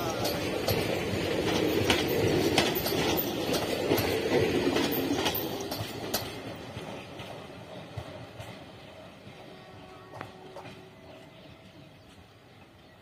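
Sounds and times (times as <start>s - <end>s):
wheels clicking over rail joints: 0.0s - 11.5s
train coaches rumbling past: 0.0s - 13.0s.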